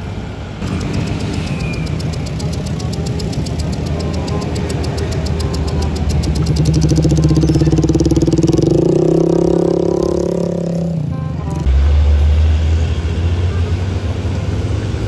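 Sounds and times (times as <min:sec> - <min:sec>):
motor scooter engine droning: 0:00.6 - 0:15.0.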